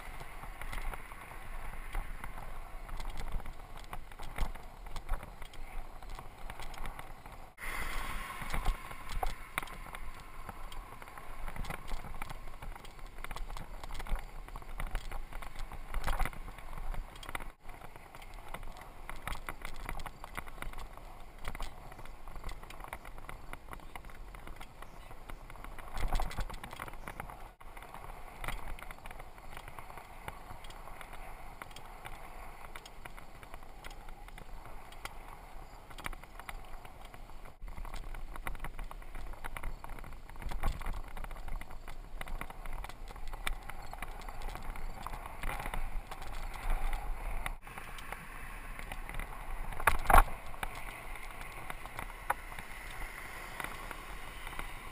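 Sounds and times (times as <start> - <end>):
bicycle rattles and knocks: 0.0 - 7.6, 8.3 - 54.9
bicycle tyres on paved road: 0.0 - 54.9.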